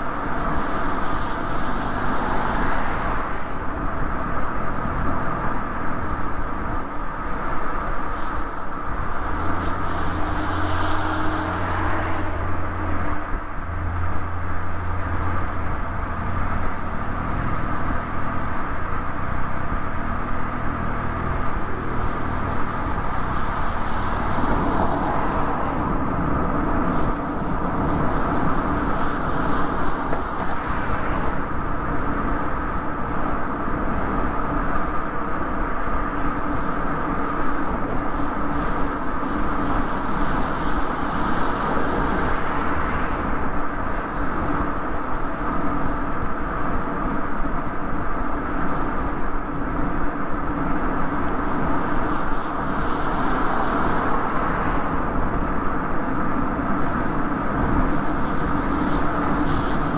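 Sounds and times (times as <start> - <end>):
car engine hum: 0.0 - 59.9
tyre and road noise: 0.0 - 59.9.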